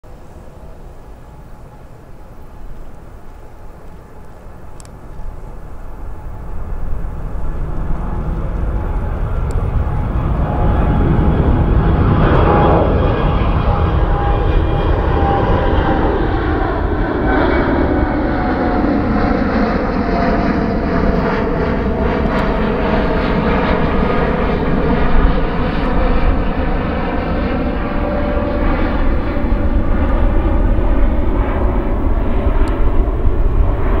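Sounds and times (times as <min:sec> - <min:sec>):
jet engines roaring overhead: 0:00.1 - 0:34.0.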